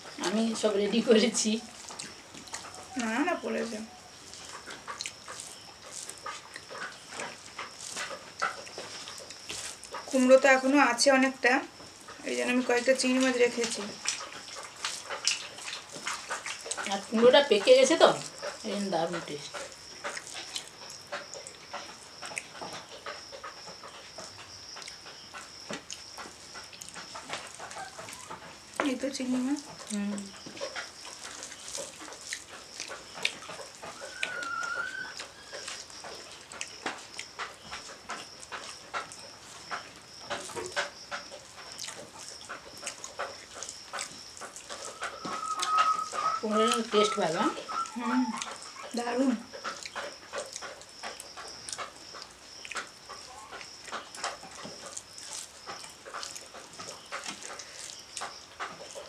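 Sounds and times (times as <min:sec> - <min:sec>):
eating with lip smacks: 0:01.2 - 0:10.2, 0:13.0 - 0:59.0.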